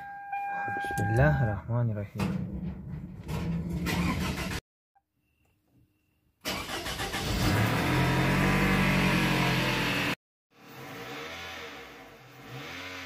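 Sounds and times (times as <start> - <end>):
car engine starting and running: 0.0 - 4.6, 6.4 - 13.0.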